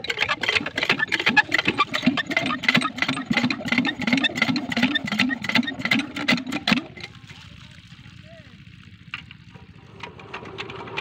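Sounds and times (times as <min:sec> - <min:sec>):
small diesel engine knocking: 0:00.0 - 0:11.0.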